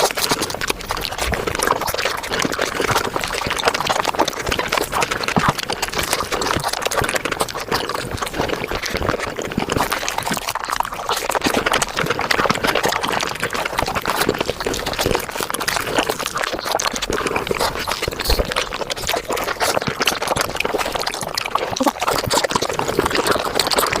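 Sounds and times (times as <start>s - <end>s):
sped-up wet eating sounds: 0.0s - 24.0s.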